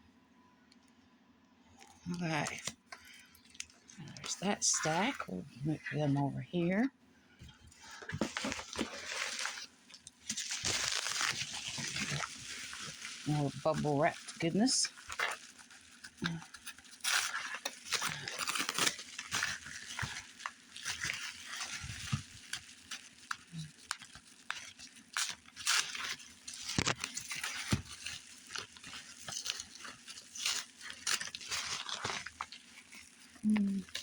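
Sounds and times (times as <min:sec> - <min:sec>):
bubble wrap crinkling: 0:01.8 - 0:06.9, 0:07.5 - 0:34.0.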